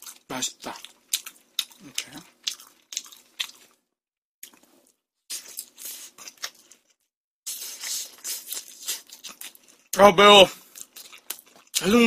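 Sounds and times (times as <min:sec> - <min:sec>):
crunchy chewing: 0:00.0 - 0:03.8, 0:04.4 - 0:12.0.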